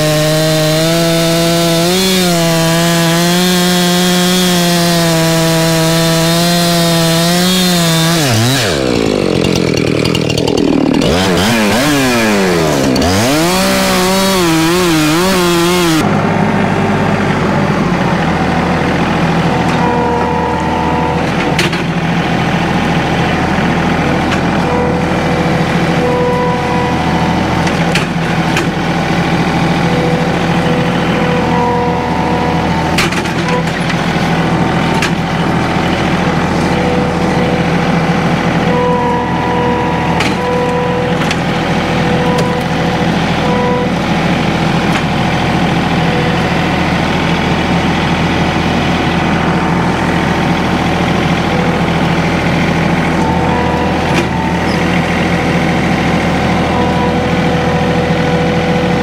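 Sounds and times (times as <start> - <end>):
chainsaw running: 0.0 - 59.0
high tone: 0.0 - 59.0
tractor diesel engine running: 0.0 - 59.0.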